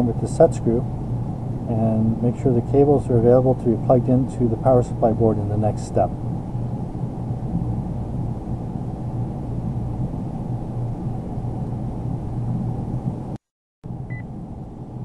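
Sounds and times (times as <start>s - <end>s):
low background rumble and hum: 0.0s - 15.0s.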